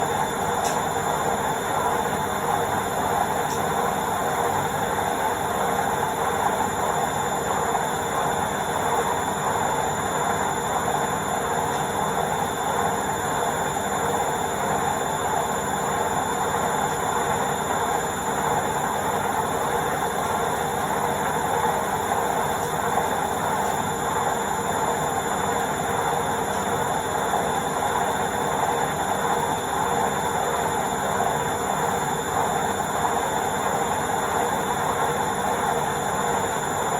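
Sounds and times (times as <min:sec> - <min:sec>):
washing machine spinning: 0:00.0 - 0:36.9.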